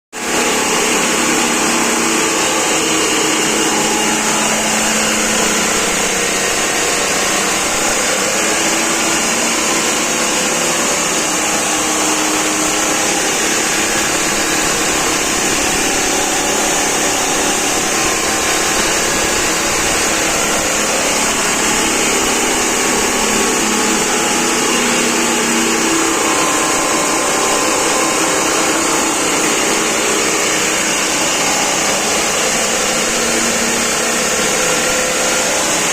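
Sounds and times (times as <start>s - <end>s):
grass chopper machine whirring: 0.1s - 35.9s.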